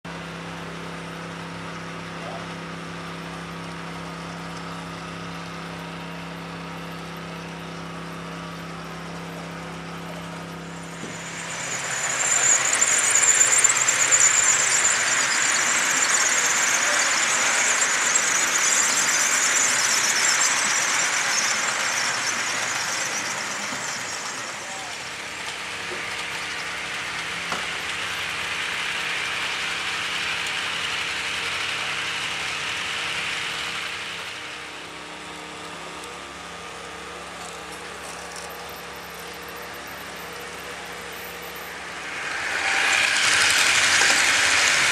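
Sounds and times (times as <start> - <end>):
model train motors whirring on rails: 0.1 - 44.9.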